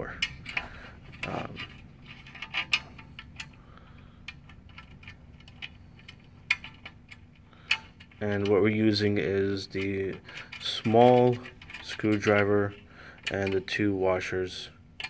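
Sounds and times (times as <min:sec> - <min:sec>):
small metal parts clicking: 0:00.0 - 0:03.6, 0:04.2 - 0:14.3.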